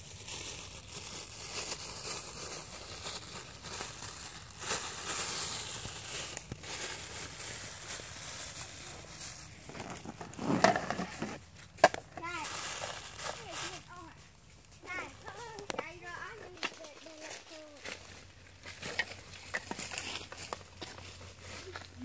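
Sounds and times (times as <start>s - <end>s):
plastic bag crinkling: 0.0s - 21.2s.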